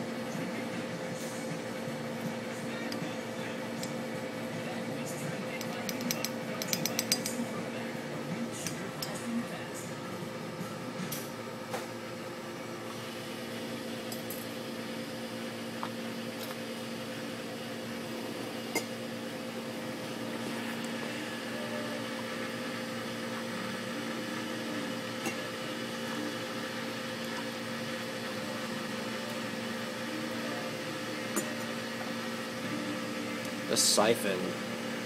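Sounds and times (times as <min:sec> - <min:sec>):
machine hum with hiss: 0:00.0 - 0:35.0.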